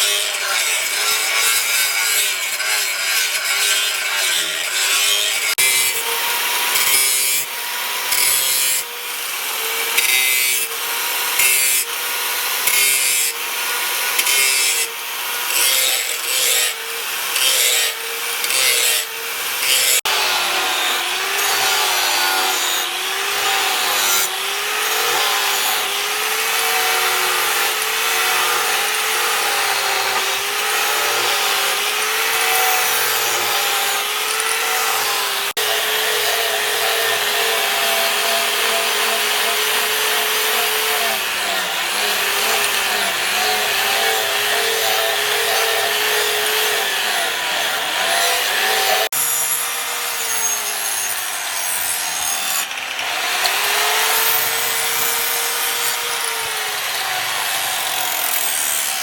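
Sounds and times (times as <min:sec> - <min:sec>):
continuous grinding: 0:00.0 - 0:59.0.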